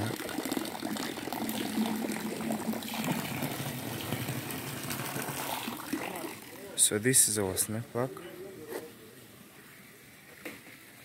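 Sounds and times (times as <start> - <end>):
pool water trickling and splashing: 0.0 - 11.0.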